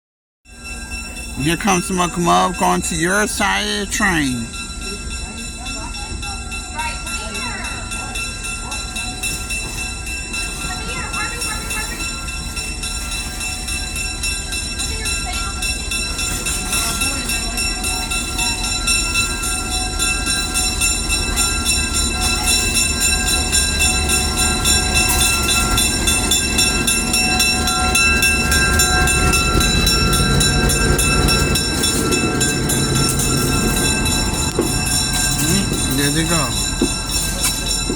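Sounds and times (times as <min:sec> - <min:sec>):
train rumbling on track: 0:04.0 - 0:37.9.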